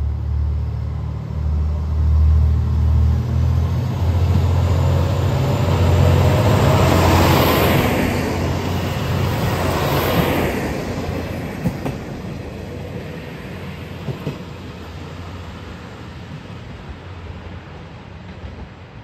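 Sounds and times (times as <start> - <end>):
diesel railcar engine and wheel rumble: 0.0 - 19.0.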